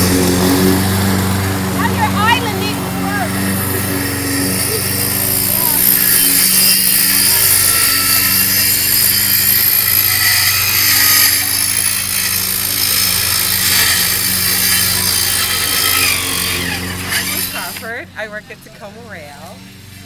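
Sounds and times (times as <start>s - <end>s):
circular saw cutting wood: 0.0s - 20.0s.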